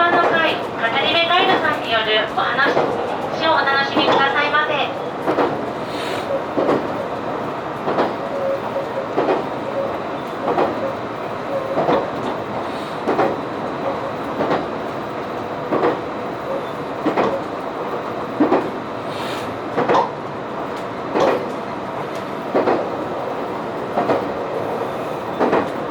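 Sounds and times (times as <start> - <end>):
train wheels clacking over joints: 0.0 - 17.6, 18.4 - 25.9
train rolling noise: 0.0 - 25.9.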